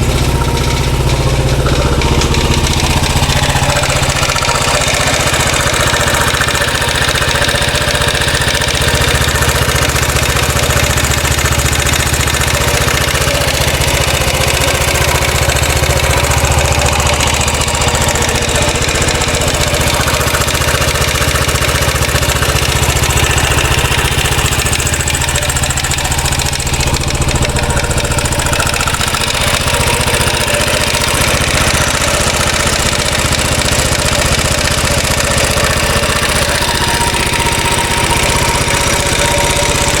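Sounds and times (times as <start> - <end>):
motorcycle engine idling: 0.0 - 40.0
oscillating rattle: 0.0 - 40.0.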